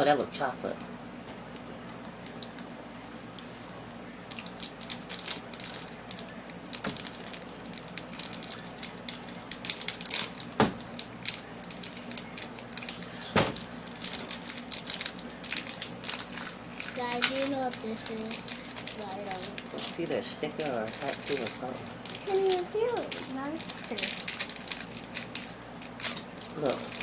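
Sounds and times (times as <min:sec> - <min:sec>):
plastic wrapper crinkling: 0:04.3 - 0:27.0.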